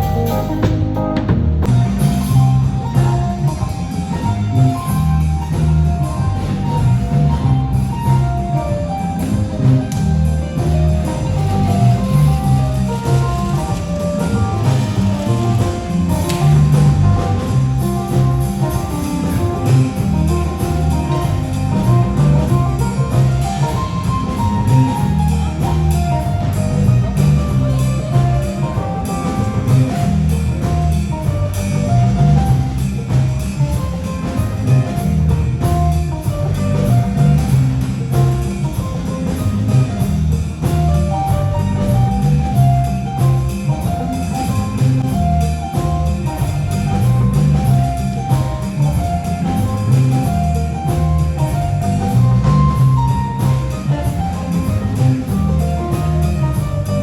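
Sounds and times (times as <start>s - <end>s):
live band music: 0.0s - 57.0s.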